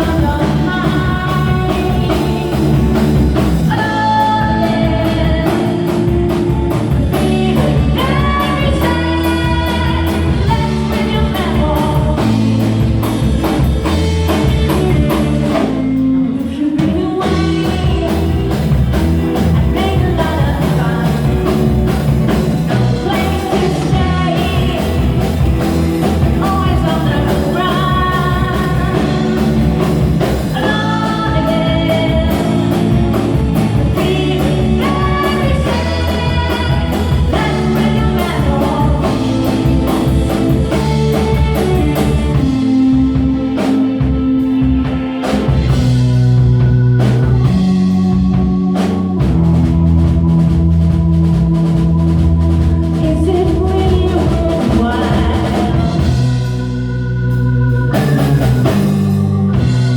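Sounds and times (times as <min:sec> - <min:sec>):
rock song with singing: 0:00.0 - 0:59.9.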